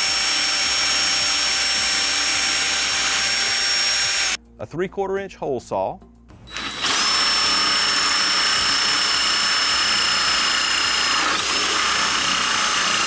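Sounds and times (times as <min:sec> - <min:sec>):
cordless drill whine: 0:00.0 - 0:04.4, 0:06.5 - 0:13.0.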